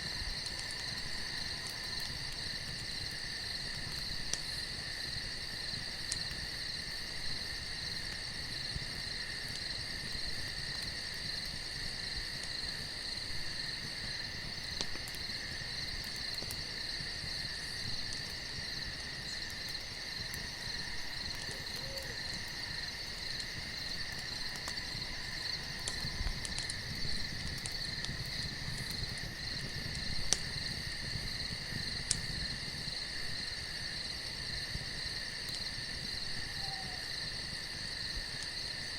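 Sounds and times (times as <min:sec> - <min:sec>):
night insects chorus: 0:00.0 - 0:38.9.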